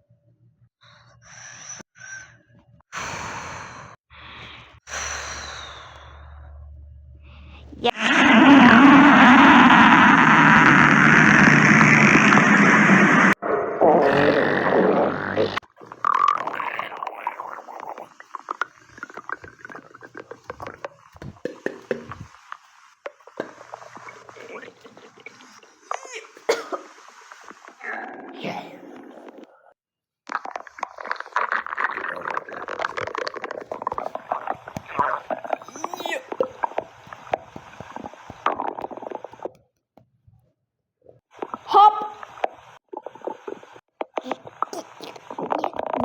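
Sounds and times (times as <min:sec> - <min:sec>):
stomach growling and gurgling: 0:07.6 - 0:39.7, 0:41.0 - 0:46.0.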